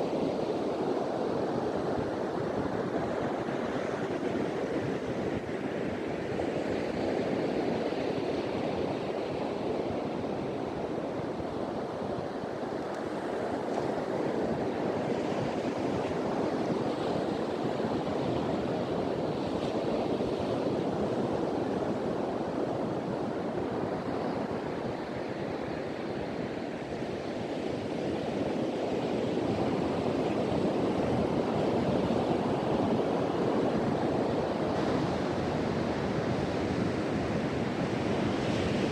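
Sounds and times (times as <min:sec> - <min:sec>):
ocean surf washing onto beach: 0:00.0 - 0:38.9
wind on microphone: 0:00.0 - 0:38.9.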